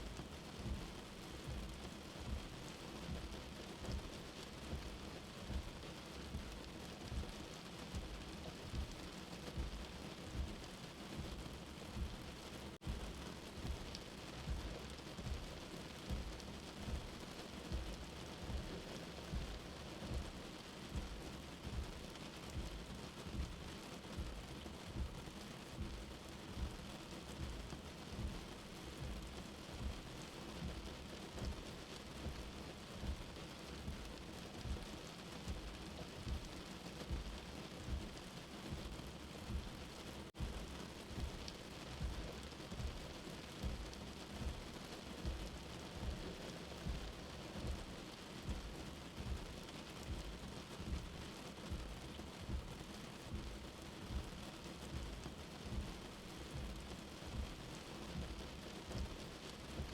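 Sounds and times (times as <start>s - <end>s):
steady rain: 0.0s - 59.9s
soft heartbeat thump: 0.2s - 59.9s.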